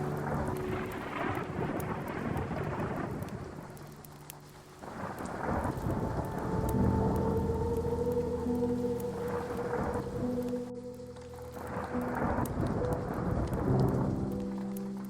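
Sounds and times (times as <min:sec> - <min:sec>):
rolling thunder: 0:00.0 - 0:15.0
steady rain: 0:00.0 - 0:15.0.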